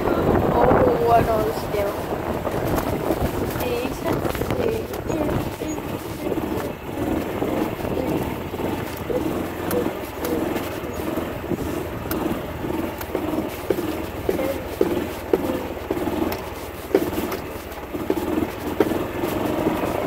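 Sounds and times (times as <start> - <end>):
golf cart driving: 0.0 - 20.0.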